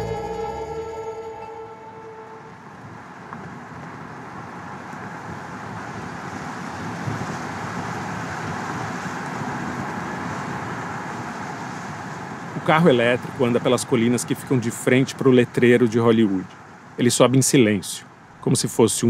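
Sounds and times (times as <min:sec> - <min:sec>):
tyre and wind hiss: 0:03.6 - 0:19.0.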